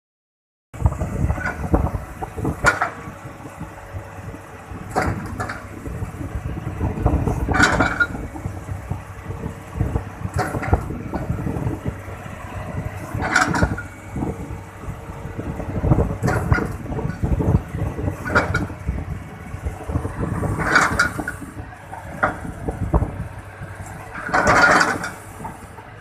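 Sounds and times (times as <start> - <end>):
excavator diesel engine running: 0.8 - 26.0.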